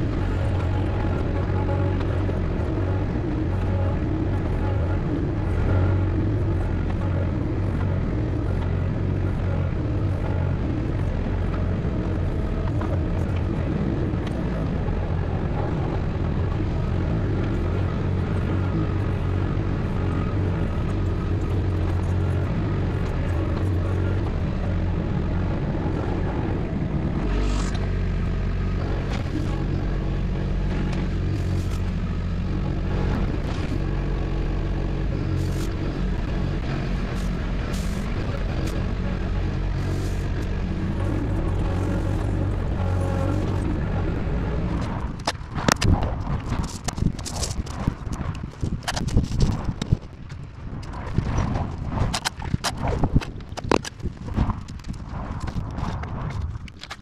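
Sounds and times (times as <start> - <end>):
backhoe engine running: 0.0 - 56.6.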